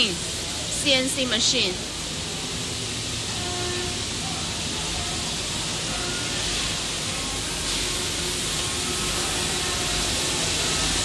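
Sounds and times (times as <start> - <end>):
machine hiss: 0.0 - 11.0.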